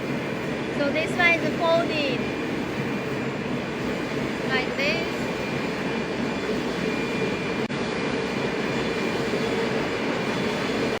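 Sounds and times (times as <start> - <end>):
production-line machinery running: 0.0 - 11.0
thin high whine: 0.0 - 11.0.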